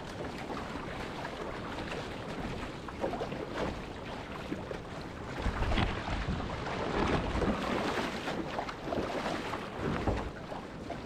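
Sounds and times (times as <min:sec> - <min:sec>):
paddle strokes: 0:00.0 - 0:11.0
seawater splashing against hull: 0:00.0 - 0:11.0
wind rumble on microphone: 0:00.0 - 0:11.0.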